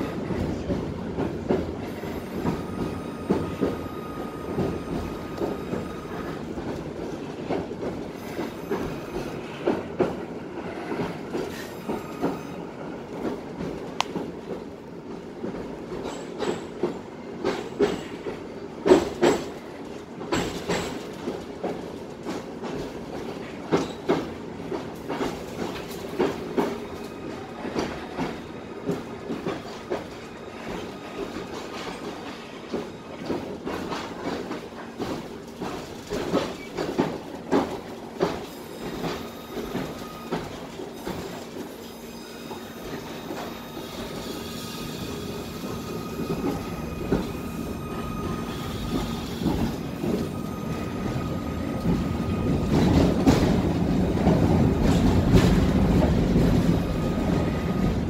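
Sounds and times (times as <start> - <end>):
tram wheels rumbling: 0.0 - 58.0.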